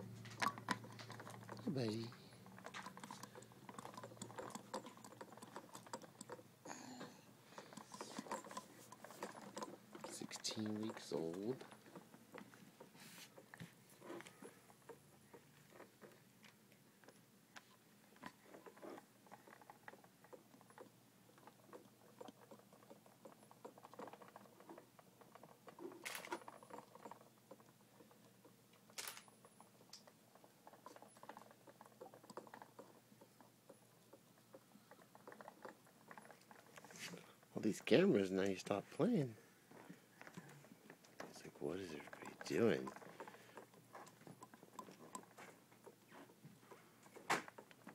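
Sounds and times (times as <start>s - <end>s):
plastic toys tapping and clicking: 0.0s - 47.9s.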